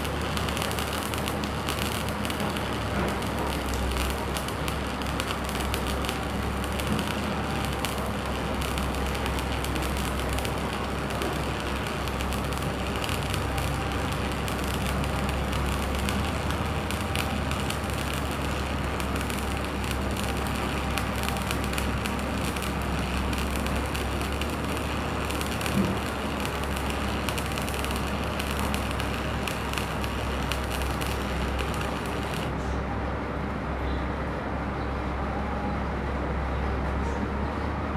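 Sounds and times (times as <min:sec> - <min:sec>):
welding arc crackling: 0:00.0 - 0:32.6.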